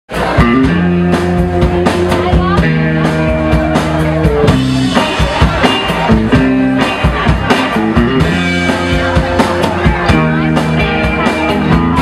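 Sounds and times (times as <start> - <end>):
drum kit beat: 0.1 - 12.0
rock band playing live: 0.1 - 12.0.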